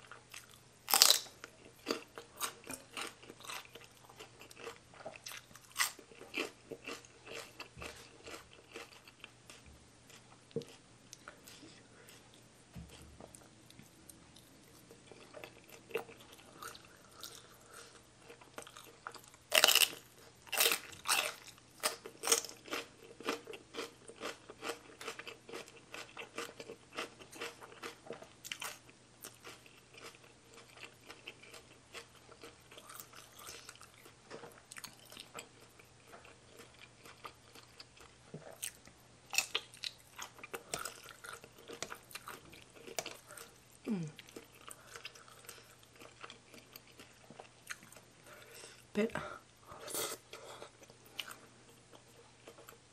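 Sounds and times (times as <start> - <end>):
person chewing and crunching food: 0.0 - 52.9.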